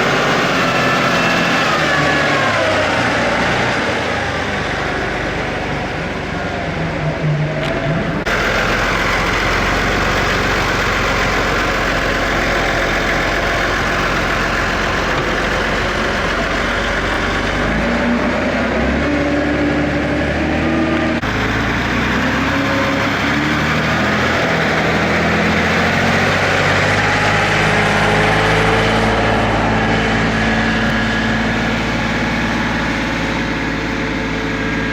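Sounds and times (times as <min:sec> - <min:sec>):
another engine: 0:00.0 - 0:34.9
tractor diesel engine running: 0:00.0 - 0:34.9.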